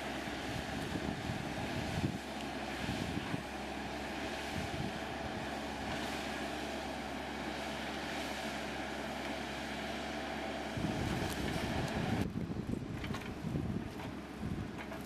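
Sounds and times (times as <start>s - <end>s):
rough uneven low rumble: 0.0s - 7.9s, 10.6s - 15.0s.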